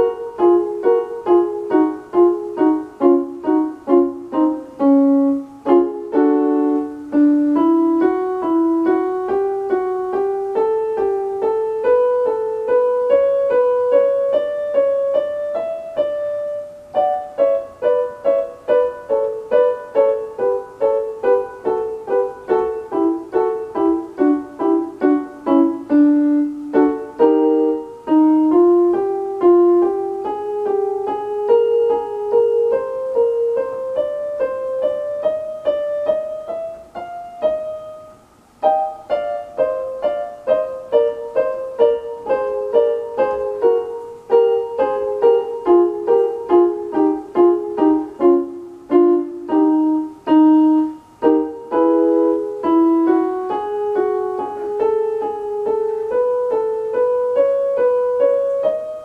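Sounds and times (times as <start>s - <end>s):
electronic keyboard piano melody: 0.0s - 59.0s.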